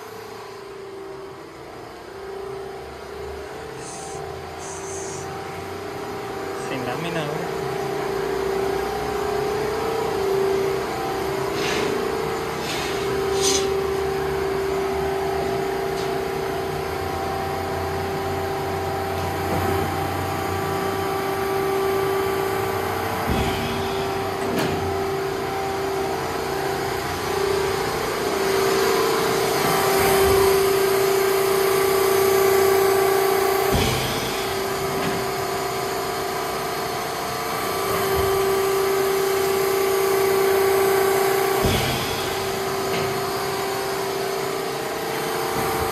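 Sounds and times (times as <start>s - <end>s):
hydraulic pump motor humming: 0.0s - 45.9s.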